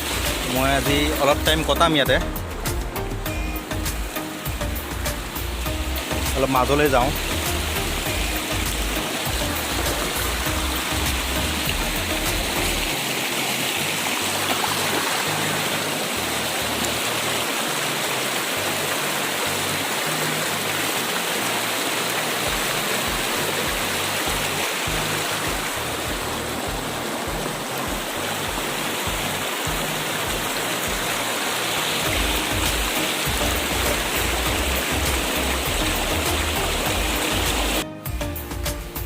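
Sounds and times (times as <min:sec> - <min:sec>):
river water rushing over rocks: 0:00.0 - 0:37.8.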